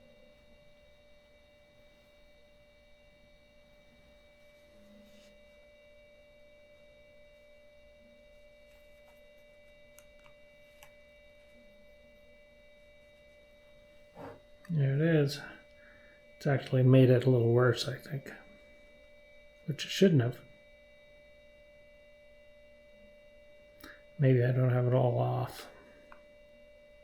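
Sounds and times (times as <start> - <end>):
faint electronic whine: 0.0 - 27.0.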